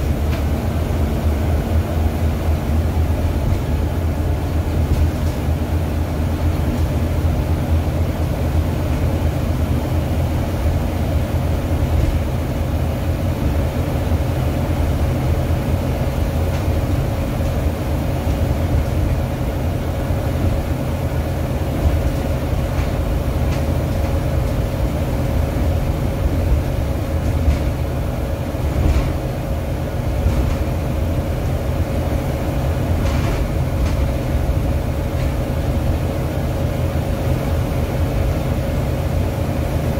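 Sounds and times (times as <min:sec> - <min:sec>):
bus diesel engine drone: 0:00.0 - 0:39.9
road rumble: 0:00.0 - 0:39.9.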